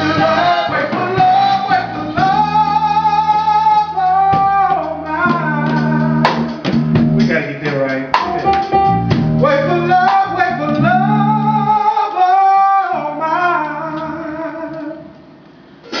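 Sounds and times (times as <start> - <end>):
man singing ballad: 0.0 - 8.6, 9.4 - 15.2
live band with guitar and bass: 0.0 - 16.0.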